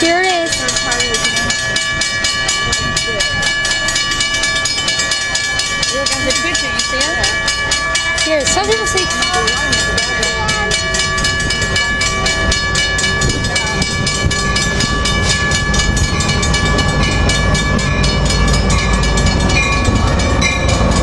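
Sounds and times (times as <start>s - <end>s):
diesel locomotive rumble: 0.0s - 21.0s.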